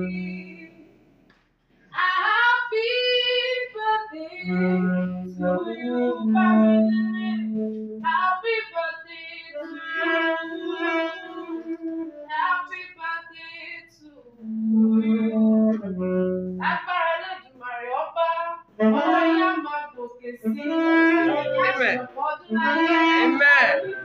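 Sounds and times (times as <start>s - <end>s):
woman singing: 0.0s - 0.8s, 1.9s - 24.0s.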